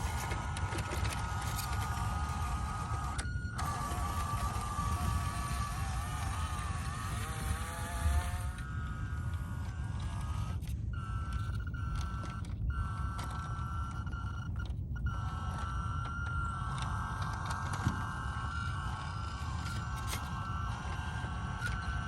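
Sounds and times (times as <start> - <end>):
electric motor whine: 0.0 - 22.0.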